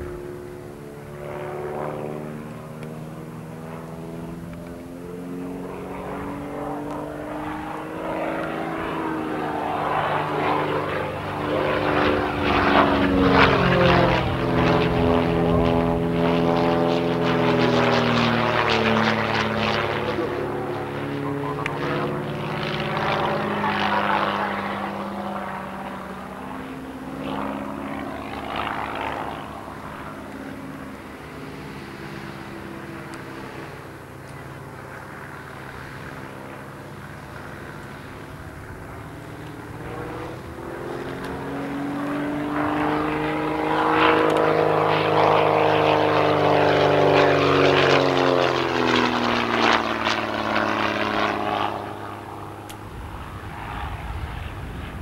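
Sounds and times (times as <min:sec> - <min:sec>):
propeller aircraft engine: 0:00.0 - 0:55.0.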